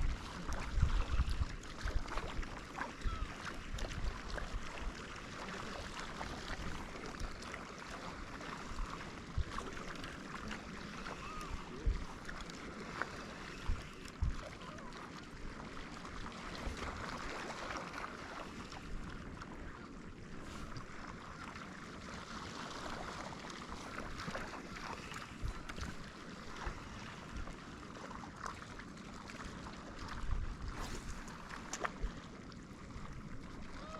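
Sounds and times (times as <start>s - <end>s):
sea water sloshing: 0.0s - 33.9s
wind: 0.0s - 33.9s.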